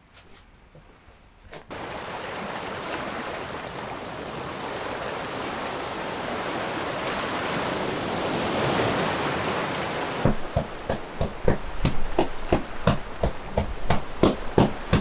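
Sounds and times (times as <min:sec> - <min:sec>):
wind: 0:00.0 - 0:15.0
sea surf: 0:01.7 - 0:15.0.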